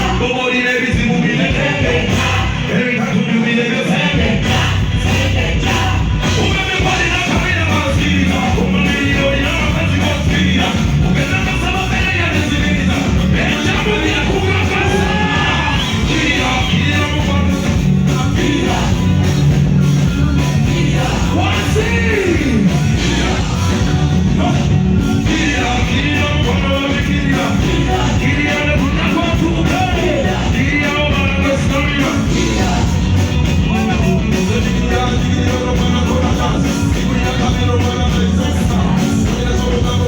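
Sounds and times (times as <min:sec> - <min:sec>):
loud live music: 0:00.0 - 0:40.0
person singing: 0:00.0 - 0:40.0.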